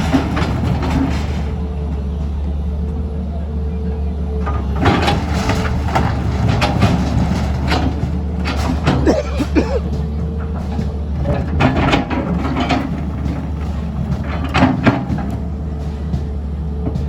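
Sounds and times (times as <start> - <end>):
knocks and clatters: 0.0 - 2.4, 4.4 - 17.0
engine running: 0.0 - 17.0.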